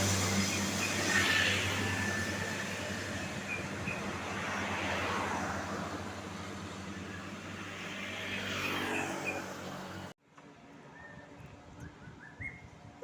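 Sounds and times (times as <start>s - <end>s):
vehicles passing: 0.0s - 11.9s.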